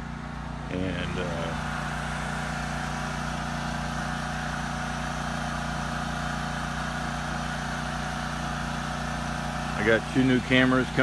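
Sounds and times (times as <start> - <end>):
generator engine humming: 0.0 - 11.0.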